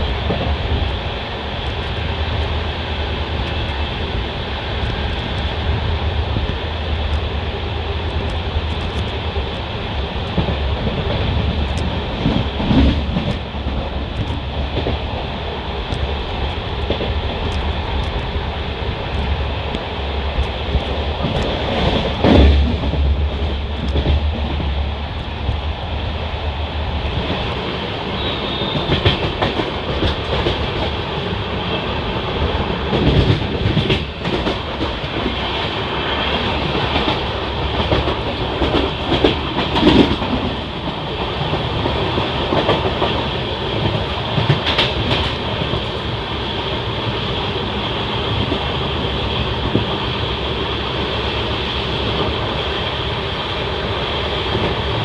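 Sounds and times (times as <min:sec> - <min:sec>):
train coach rumbling: 0:00.0 - 0:55.0
train wheels clattering on rails: 0:00.0 - 0:55.0.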